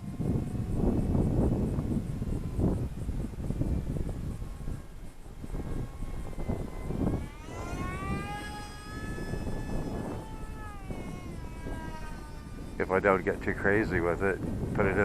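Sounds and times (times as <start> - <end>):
model aircraft motor whining: 0.0 - 15.0
wind noise: 0.0 - 15.0.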